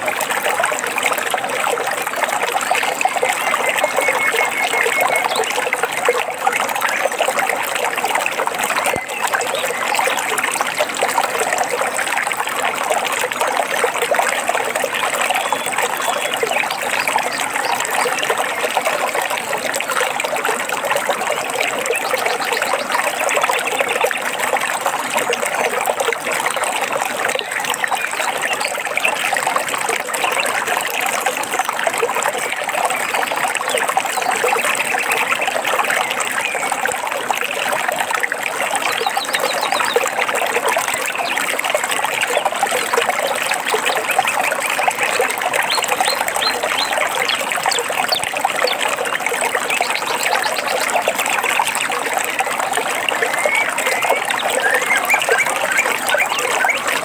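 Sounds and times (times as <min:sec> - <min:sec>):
stream trickling: 0:00.0 - 0:57.0.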